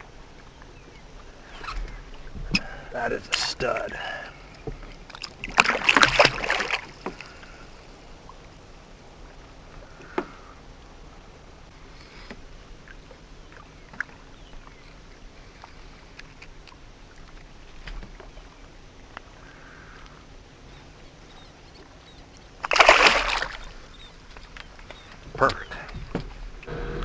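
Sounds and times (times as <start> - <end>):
quiet water around boat: 0.0 - 27.0.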